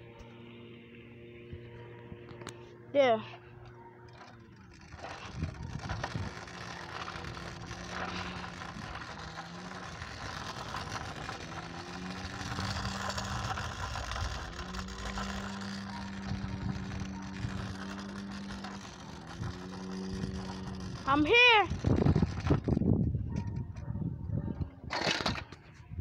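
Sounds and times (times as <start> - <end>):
low hum: 0.0 - 26.0
scooter wheels rumbling on asphalt: 0.0 - 26.0.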